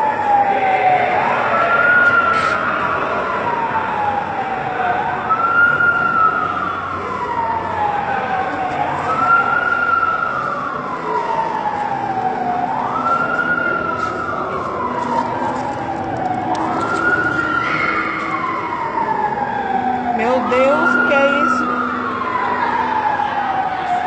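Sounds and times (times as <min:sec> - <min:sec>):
ambulance siren wailing: 0:00.0 - 0:24.0.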